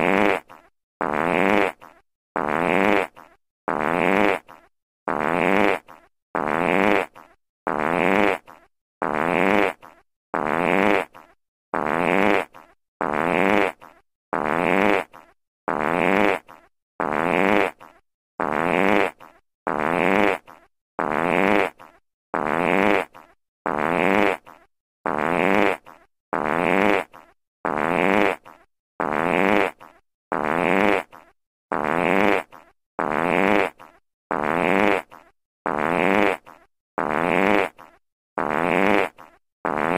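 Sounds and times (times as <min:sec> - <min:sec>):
fart sound effect: 0:00.0 - 0:39.9.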